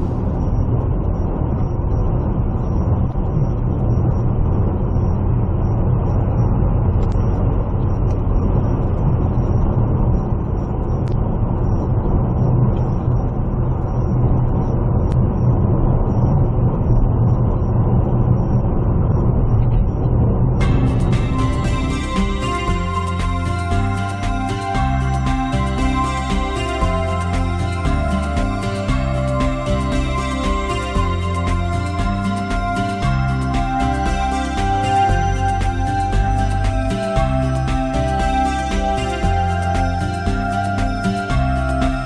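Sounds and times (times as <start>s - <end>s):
vehicle engine and tyre rumble: 0.0s - 42.0s.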